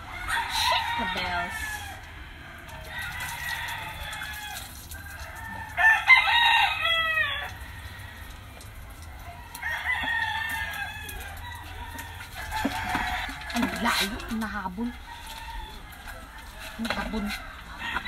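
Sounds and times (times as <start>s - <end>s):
rooster crowing: 0.0s - 8.6s, 9.2s - 18.0s.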